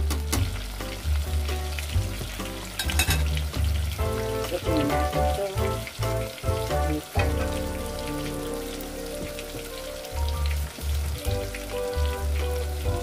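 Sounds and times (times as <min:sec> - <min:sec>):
background music: 0:00.0 - 0:13.0
oil sizzling: 0:00.0 - 0:13.0.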